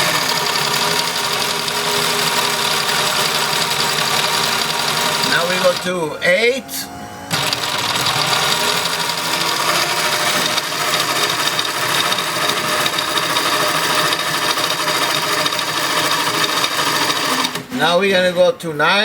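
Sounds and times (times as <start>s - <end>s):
sewing machine running: 0.0s - 6.2s, 7.3s - 17.8s.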